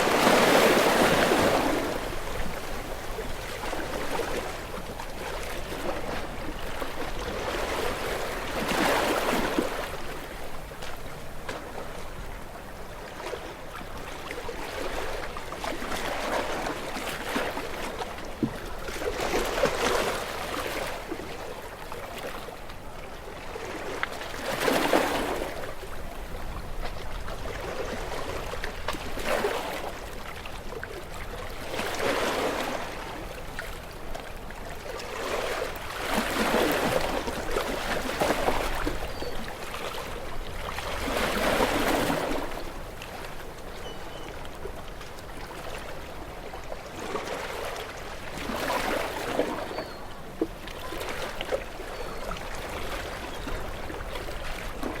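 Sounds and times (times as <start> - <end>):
waves washing onto shore: 0.0 - 49.8.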